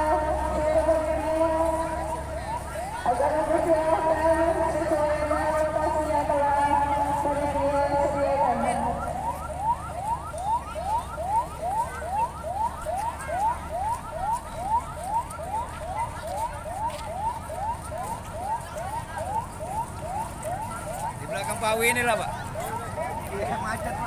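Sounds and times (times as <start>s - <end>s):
electronic siren rising sweeps: 0.0s - 24.0s.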